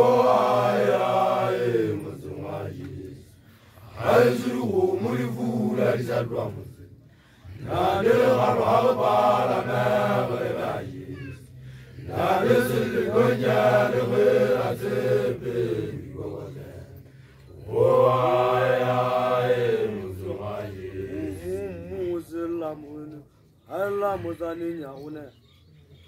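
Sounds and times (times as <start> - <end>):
group chanting together: 0.0 - 22.0.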